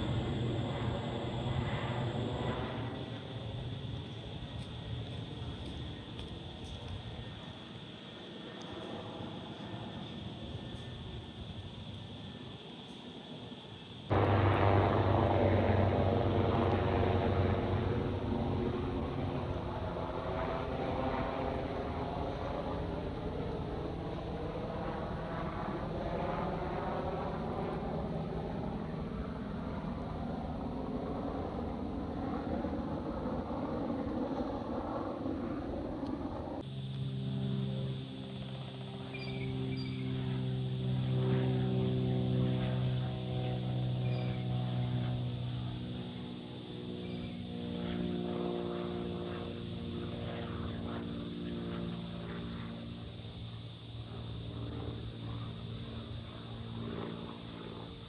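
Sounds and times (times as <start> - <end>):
aircraft engine rushing overhead: 0.0 - 58.0.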